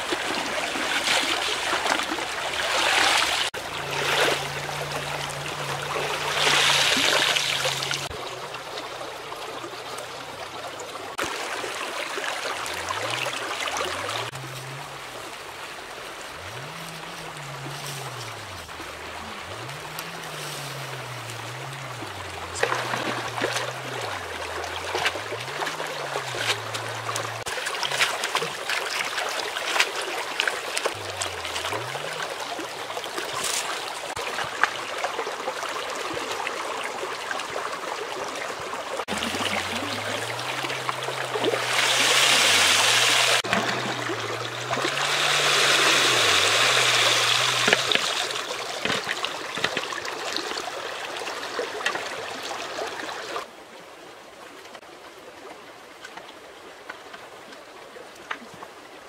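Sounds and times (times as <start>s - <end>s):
water splashing: 0.0s - 53.6s
stream running over stones: 0.0s - 59.0s.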